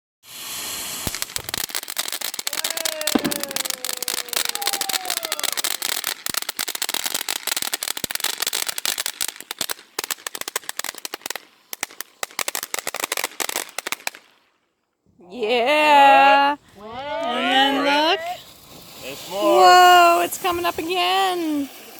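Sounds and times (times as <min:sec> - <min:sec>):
firework crackling: 0:00.2 - 0:14.6, 0:15.3 - 0:21.9.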